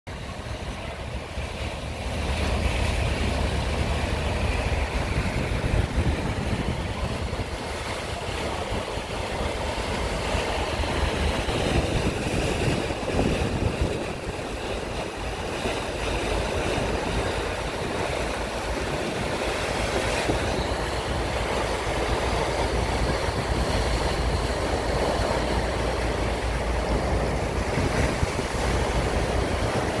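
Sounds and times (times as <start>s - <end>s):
sea water rushing and churning: 0.1s - 30.0s
steady low rumble: 0.1s - 30.0s
wind buffeting microphone: 0.1s - 30.0s.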